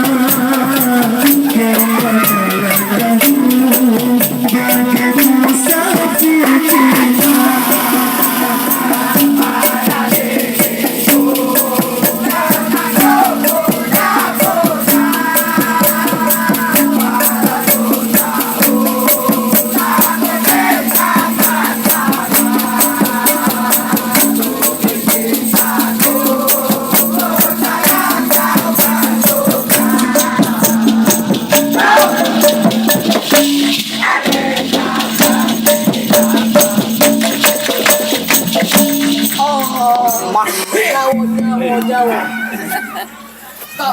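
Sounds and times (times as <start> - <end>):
shaker rhythm: 0.0 - 41.0
pop song: 0.0 - 42.1.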